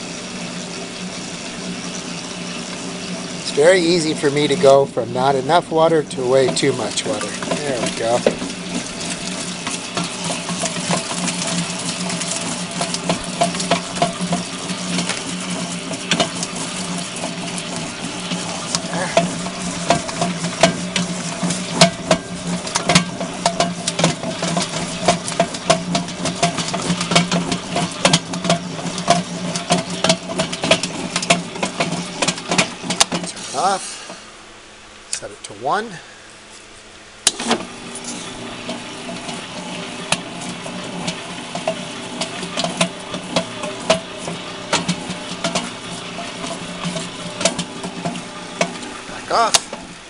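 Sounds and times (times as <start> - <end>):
beater slapping dough: 0.0 - 34.2, 37.3 - 50.0
mixer motor humming: 0.0 - 35.9, 37.2 - 50.0.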